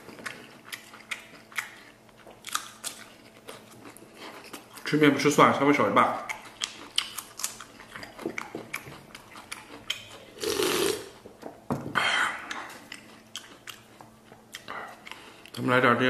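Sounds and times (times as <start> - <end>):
chewing with crisp crunches: 0.0 - 11.4, 12.3 - 15.7.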